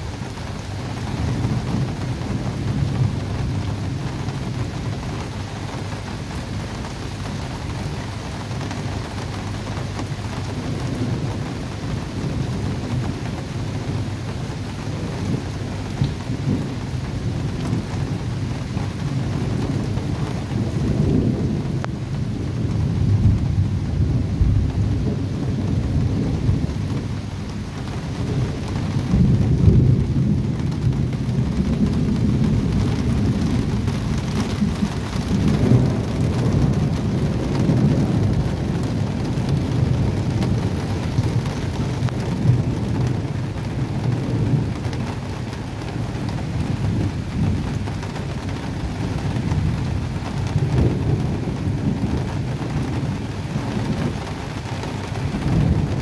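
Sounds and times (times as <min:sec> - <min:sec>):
steady rain: 0:00.0 - 0:56.0
thunder rumbling: 0:00.0 - 0:56.0.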